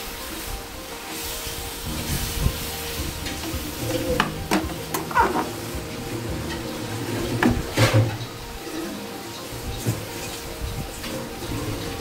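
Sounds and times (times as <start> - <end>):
vegetables sizzling in pan: 0.0 - 12.0.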